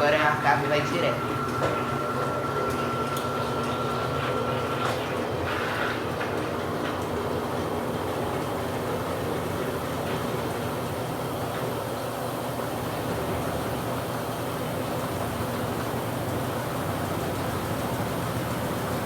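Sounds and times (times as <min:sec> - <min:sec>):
washing machines whirring: 0:00.0 - 0:19.0.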